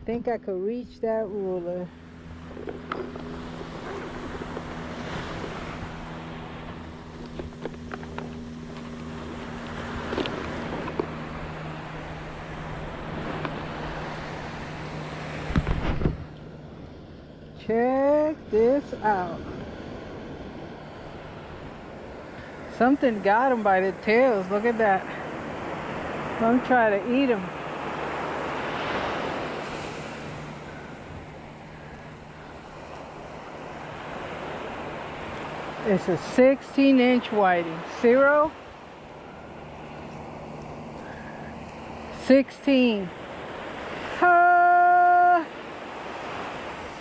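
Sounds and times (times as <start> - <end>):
steady low hum: 0.0 - 44.2
ocean surf washing on shore: 0.7 - 47.0.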